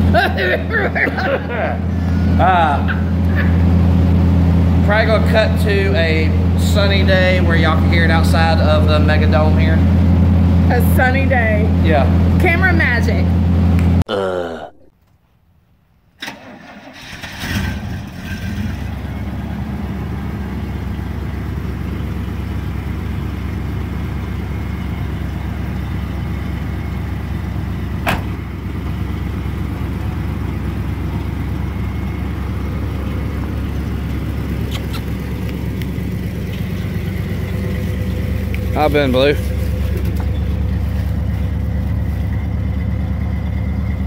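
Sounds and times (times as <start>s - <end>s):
truck engine starting and idling: 0.0s - 14.0s, 15.0s - 44.0s.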